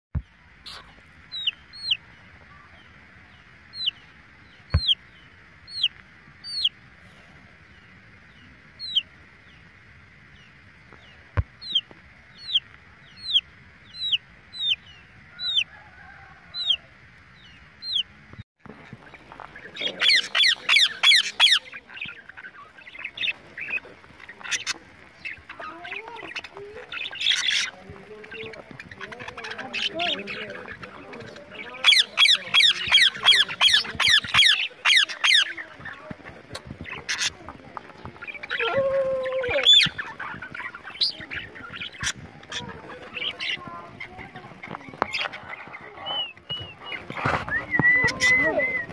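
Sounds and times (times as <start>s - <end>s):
chick peeping: 0.2s - 6.9s, 7.7s - 9.7s, 10.4s - 18.2s, 18.8s - 48.9s
budgerigars chattering: 0.6s - 6.8s, 7.7s - 9.6s, 10.4s - 15.7s, 16.5s - 16.8s, 17.4s - 18.2s, 18.9s - 38.8s, 39.4s - 48.9s.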